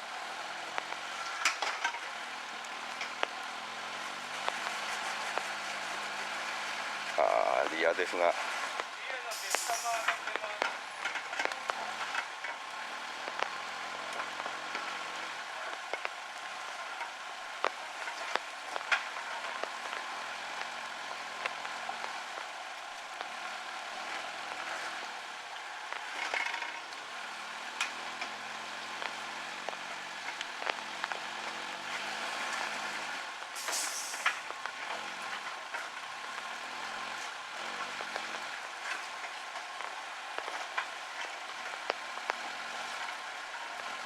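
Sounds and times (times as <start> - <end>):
rain hissing and pattering: 0.0 - 44.0
raindrop clicks: 0.7 - 3.5, 4.2 - 44.0.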